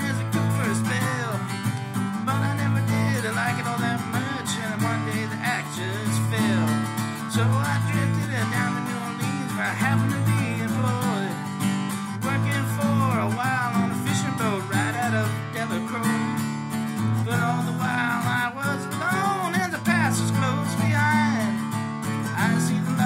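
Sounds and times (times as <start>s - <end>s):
acoustic guitar strumming: 0.0s - 23.0s
sliding guitar melody: 0.0s - 23.0s.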